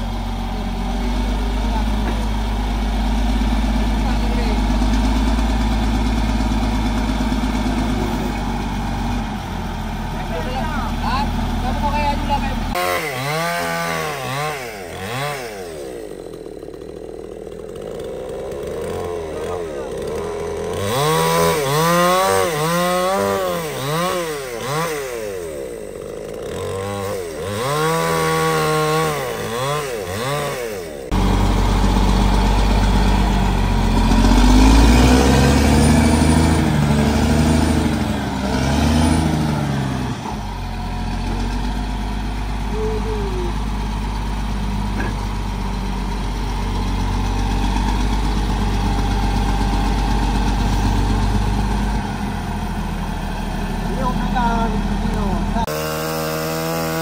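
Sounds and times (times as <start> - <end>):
chainsaw revving: 0.0 - 57.0
heavy diesel engine running: 0.0 - 57.0.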